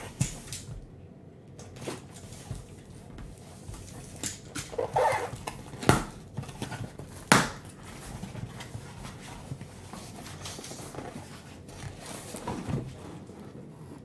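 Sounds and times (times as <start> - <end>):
cardboard scraping and rustling: 1.7 - 14.0.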